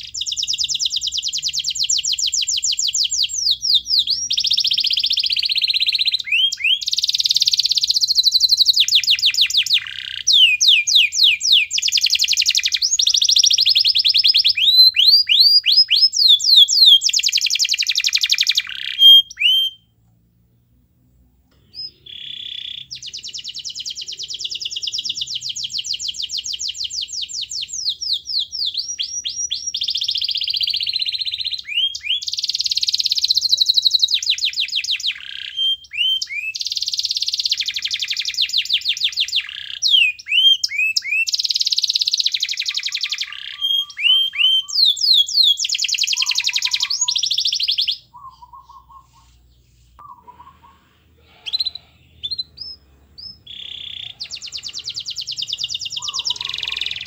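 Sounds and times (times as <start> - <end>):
canary singing trills: 0.0 - 19.9, 21.6 - 57.0.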